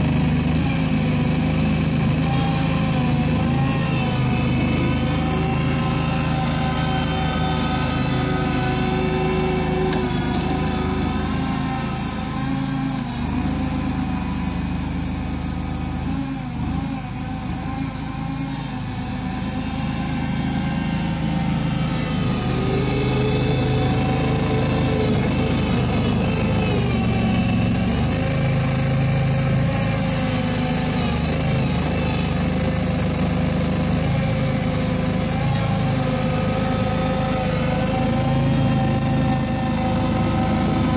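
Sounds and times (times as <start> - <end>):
small engine under load: 0.0 - 40.9.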